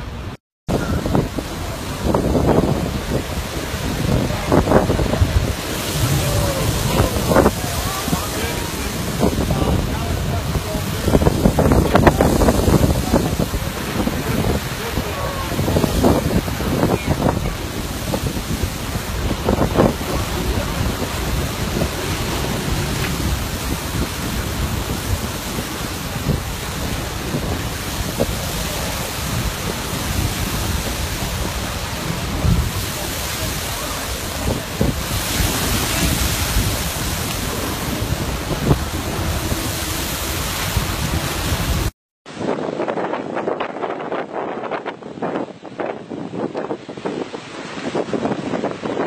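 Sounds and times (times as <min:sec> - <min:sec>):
surf crashing: 0:00.0 - 0:49.0
wind buffeting microphone: 0:00.0 - 0:49.0
lava hissing into sea: 0:01.6 - 0:41.9.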